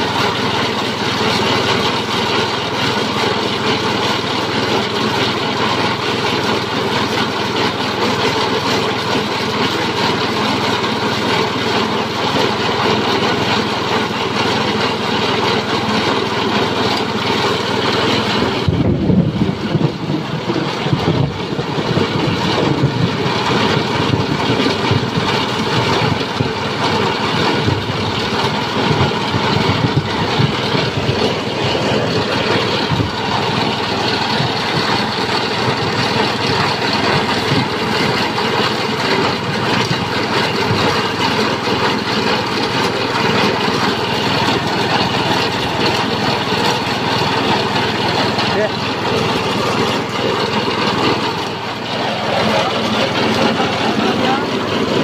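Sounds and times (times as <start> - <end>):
cutter rattling and crunching: 0.0 - 55.0
small petrol engine running: 0.0 - 55.0.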